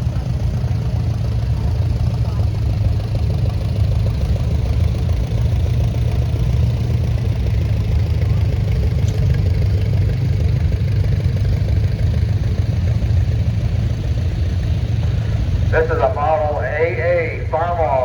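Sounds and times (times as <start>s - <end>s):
tractor engines droning: 0.0s - 18.0s.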